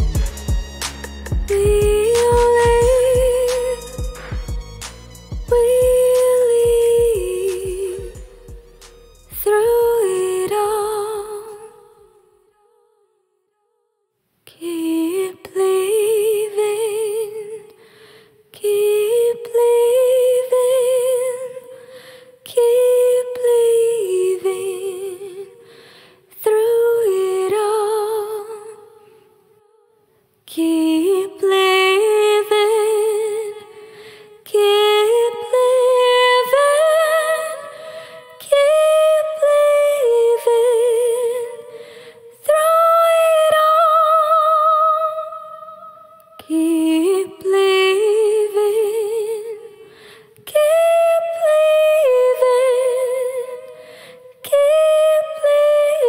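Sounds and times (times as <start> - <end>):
woman singing slow song: 1.3 - 13.1, 14.4 - 56.0.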